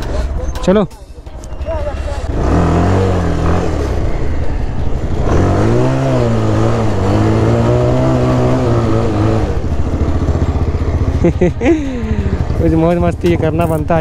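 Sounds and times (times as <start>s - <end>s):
motorcycle engine pulling away: 2.3s - 14.0s.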